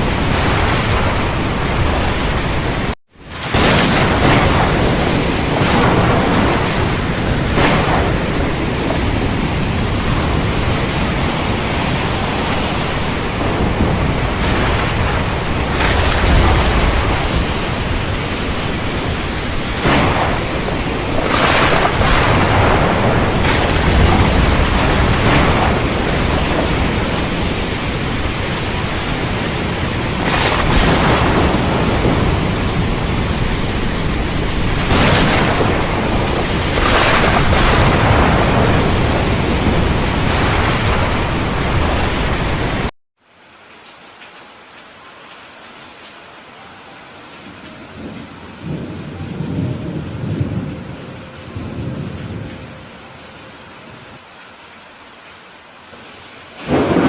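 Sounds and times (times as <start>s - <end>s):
rolling thunder: 0.0s - 42.9s, 47.8s - 53.2s, 56.6s - 57.0s
heavy rain hiss: 0.0s - 57.0s.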